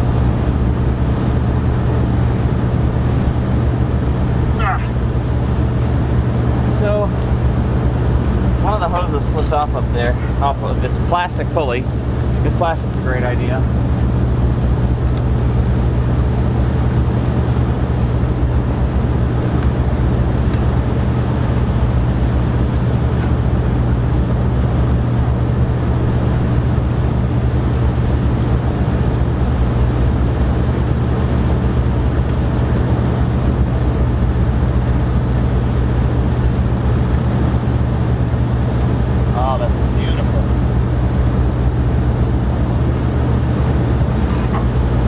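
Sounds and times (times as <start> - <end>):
low mechanical drone: 0.0 - 45.0.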